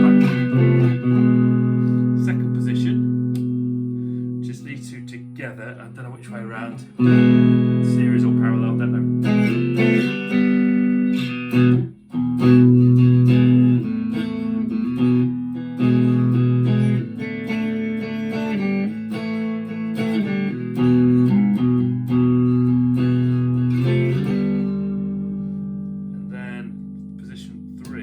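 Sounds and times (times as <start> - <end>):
electric guitar chords and notes: 0.0 - 28.0.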